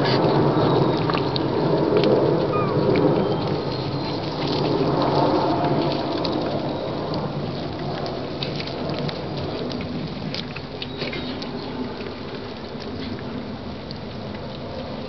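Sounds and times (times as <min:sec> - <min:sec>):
airplane passing overhead: 0:00.0 - 0:15.0.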